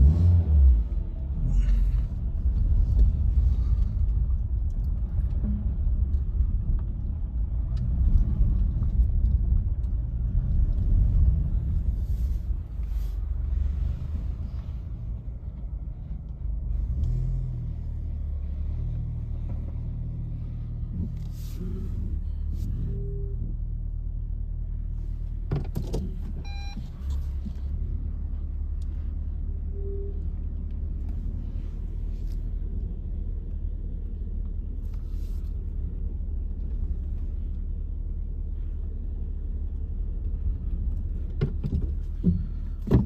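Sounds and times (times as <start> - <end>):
vehicle rumble: 0.0 - 43.0.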